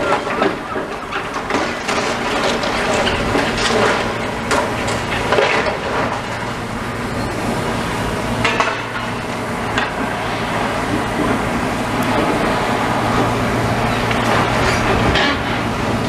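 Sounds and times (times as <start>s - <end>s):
diesel engine hum: 0.0s - 16.0s
rubble crashing: 0.0s - 16.0s.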